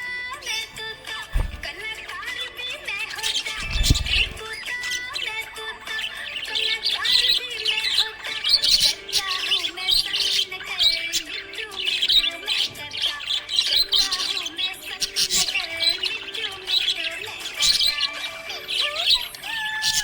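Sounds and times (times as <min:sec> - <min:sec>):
background music: 0:00.0 - 0:20.0
budgerigar chirping and warbling: 0:00.4 - 0:20.0.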